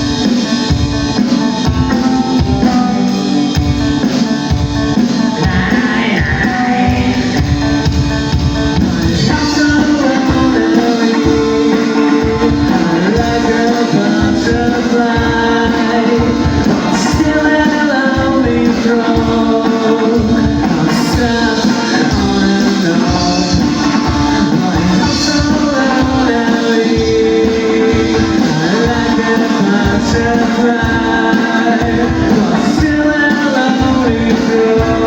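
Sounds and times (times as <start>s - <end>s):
live rock band playing: 0.0s - 35.0s
person singing: 0.0s - 35.0s.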